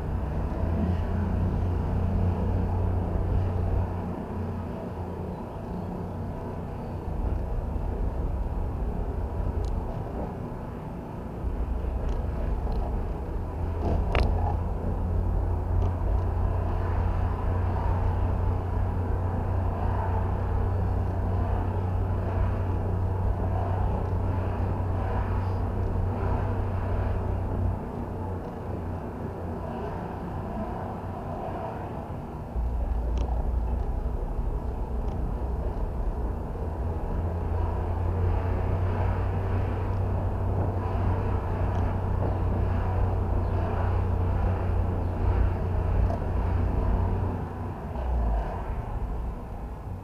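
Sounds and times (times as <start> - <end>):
car engine low rumble: 0.0 - 50.0.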